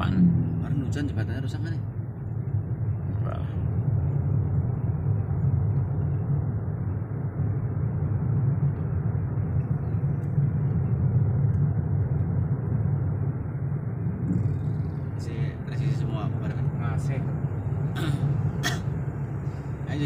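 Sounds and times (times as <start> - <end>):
car cabin engine and road rumble: 0.0 - 20.0.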